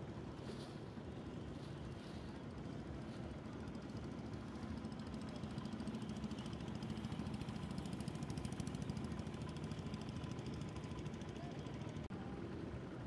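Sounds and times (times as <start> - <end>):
motor boat engine running: 0.0 - 13.0.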